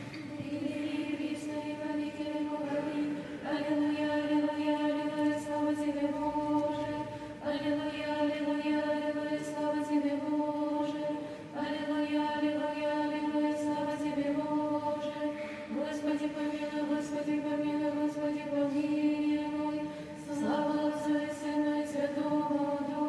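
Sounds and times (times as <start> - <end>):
choir singing chant a cappella: 0.0 - 23.0.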